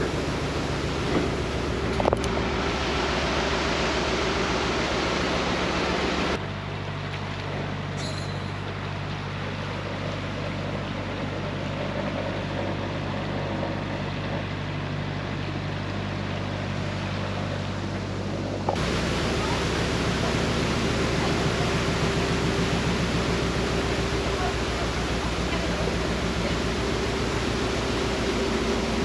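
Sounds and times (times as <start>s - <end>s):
diesel engine chugging: 0.0s - 29.0s.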